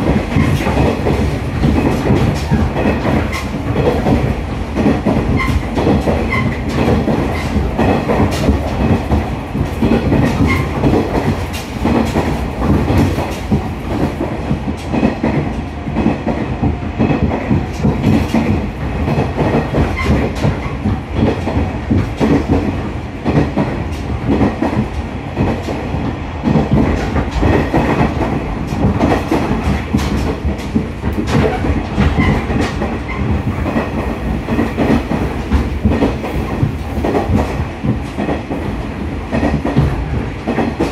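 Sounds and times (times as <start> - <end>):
train low rumble: 0.0 - 40.9.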